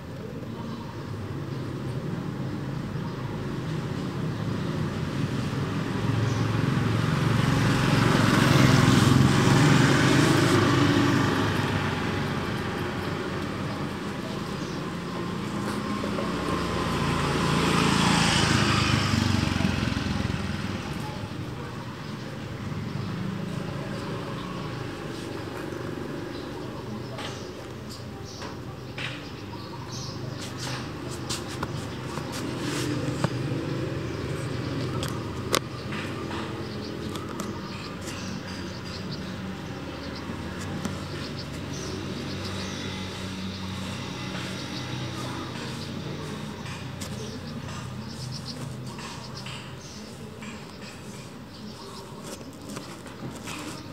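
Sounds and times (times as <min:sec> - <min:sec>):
vehicle engine passing by: 0:04.4 - 0:27.3, 0:29.9 - 0:51.9.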